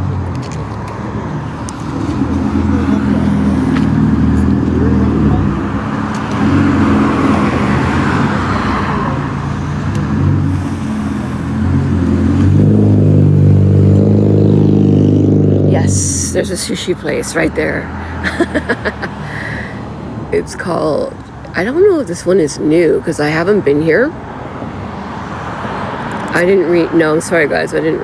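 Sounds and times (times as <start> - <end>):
car passing by: 0.0 - 22.0, 23.9 - 28.0
car engines running: 0.0 - 28.0.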